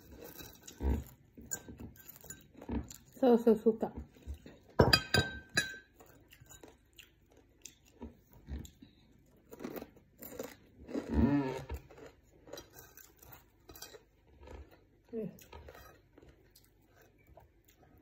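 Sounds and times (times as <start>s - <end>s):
chewing and crunching: 0.0s - 4.8s, 5.7s - 18.0s.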